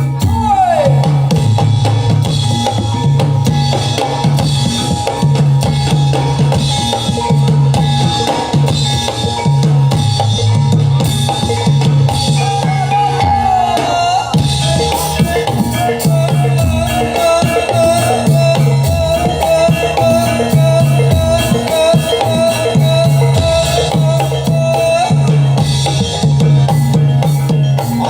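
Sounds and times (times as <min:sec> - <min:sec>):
drums beating fast rhythm: 0:00.0 - 0:28.0
high held melodic line: 0:00.0 - 0:28.0.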